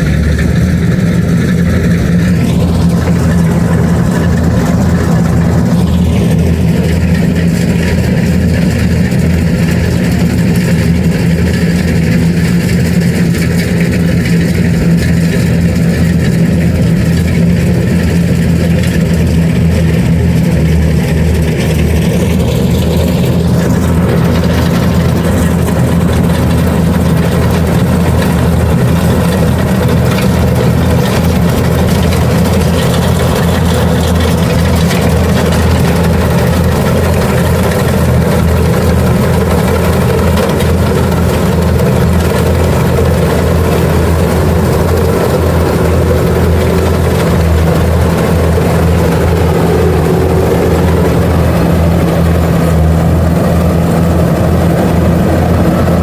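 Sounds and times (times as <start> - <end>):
combine harvester engine drone: 0.0 - 56.0
high-pitched machine noise: 0.0 - 56.0.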